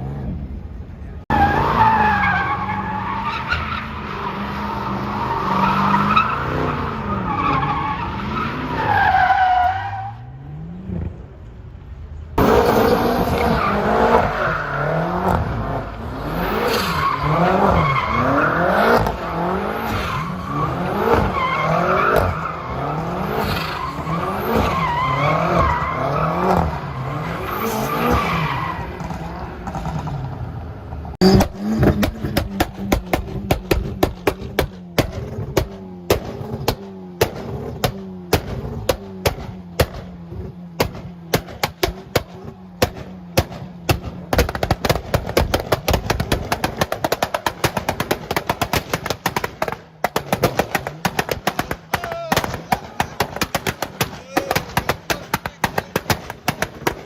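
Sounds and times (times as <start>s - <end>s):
car engines revving hard: 0.0s - 11.6s, 12.4s - 57.0s.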